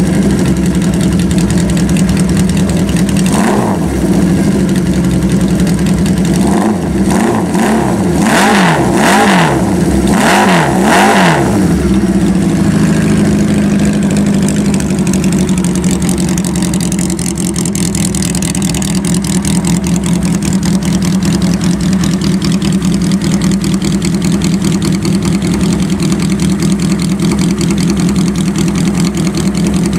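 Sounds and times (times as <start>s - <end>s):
motorcycle engine revving and idling: 0.0s - 29.9s.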